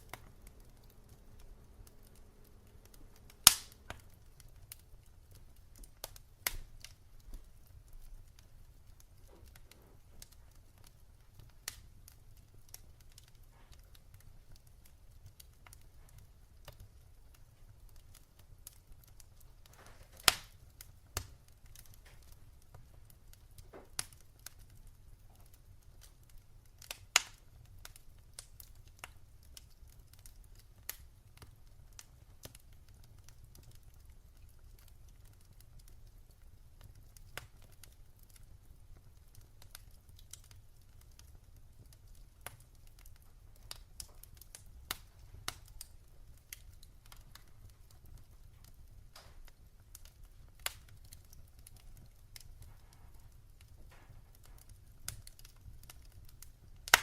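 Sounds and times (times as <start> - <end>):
fireplace fire crackling: 0.0 - 57.0
loud fire snaps: 0.0 - 57.0.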